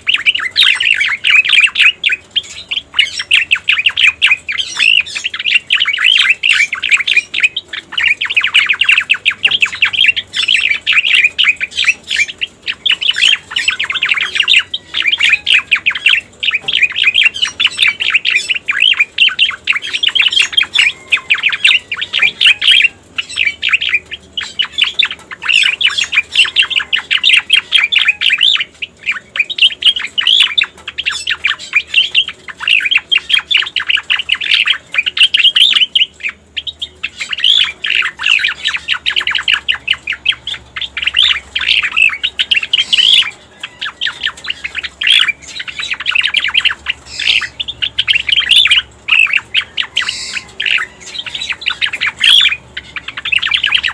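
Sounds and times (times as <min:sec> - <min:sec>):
bird song chattering notes: 0:00.0 - 0:53.9.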